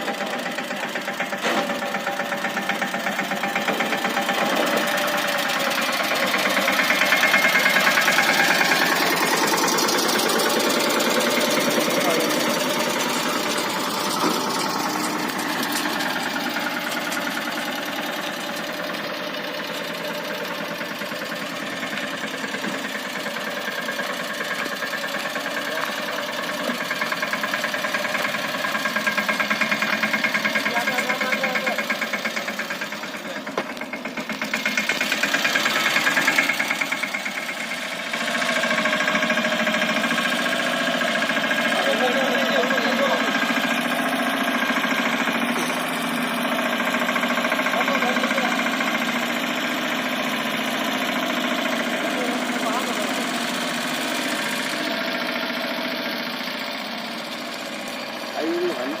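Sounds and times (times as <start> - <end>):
tractor diesel engine knocking: 0.0 - 59.0.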